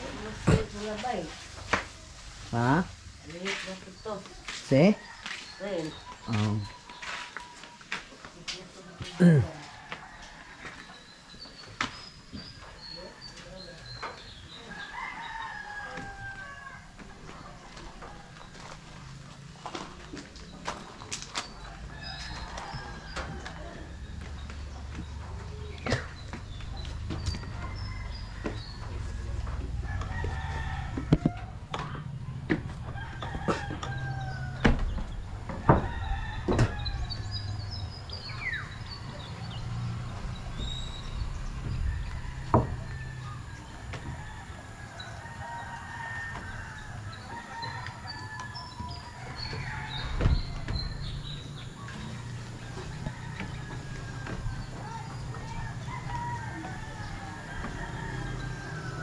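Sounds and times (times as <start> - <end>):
roosters crowing: 9.0 - 11.6, 12.4 - 59.0.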